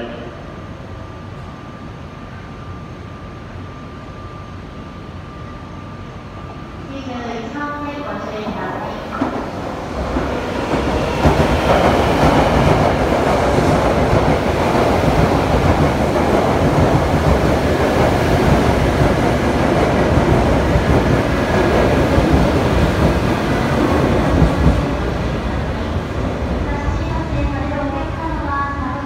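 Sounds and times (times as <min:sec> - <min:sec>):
train rushing past: 0:00.0 - 0:29.0.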